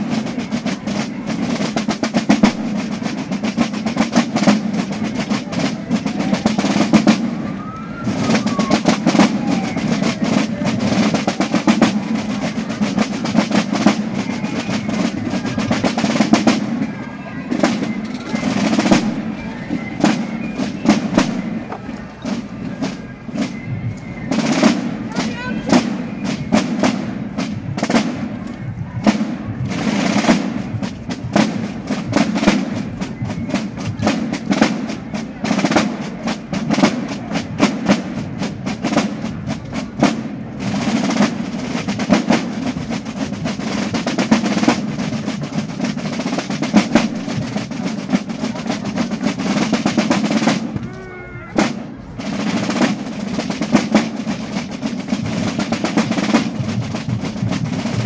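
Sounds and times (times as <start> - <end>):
marching snare drums: 0.0 - 58.0.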